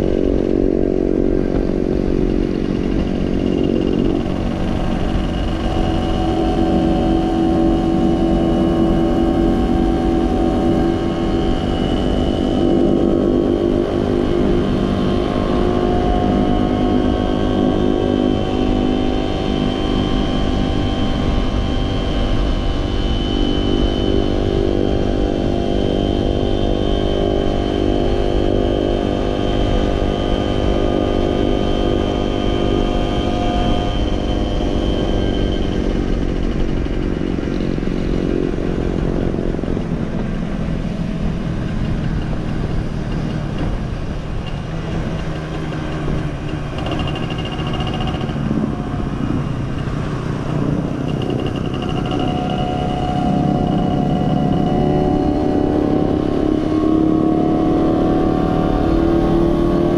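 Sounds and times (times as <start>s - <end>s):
small motorcycle engine running: 0.0s - 59.9s.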